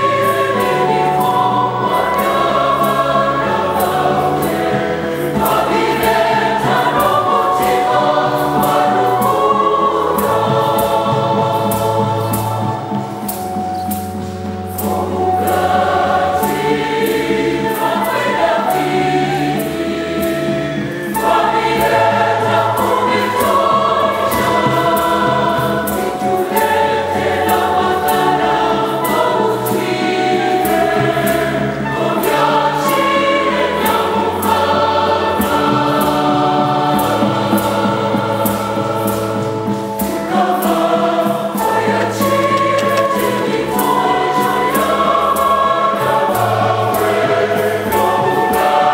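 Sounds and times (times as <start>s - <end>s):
choir singing a hymn: 0.0s - 48.9s
steady percussion beat: 0.0s - 48.9s.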